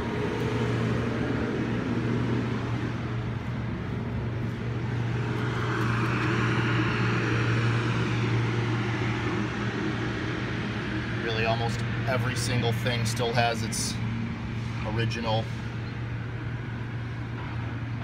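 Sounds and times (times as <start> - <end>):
construction machinery droning: 0.0 - 18.0
rushing noise: 0.0 - 18.0.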